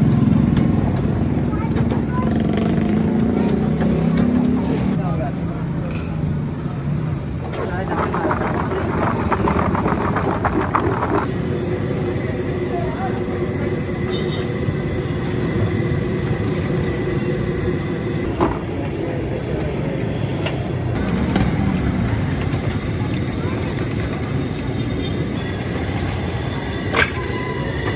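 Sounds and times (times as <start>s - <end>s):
traffic rumble: 0.0s - 27.9s.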